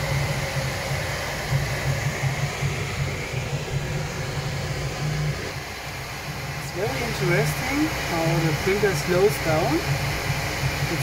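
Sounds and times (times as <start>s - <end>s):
motors humming in pulses: 0.0s - 11.0s
steady fan whir: 0.0s - 11.0s.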